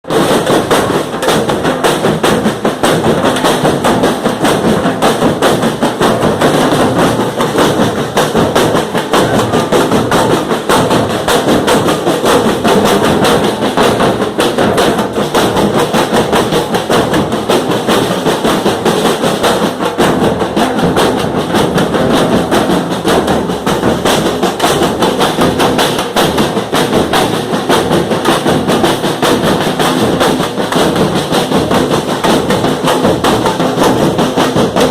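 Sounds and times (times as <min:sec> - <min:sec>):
fast drum and percussion music: 0:00.0 - 0:34.9.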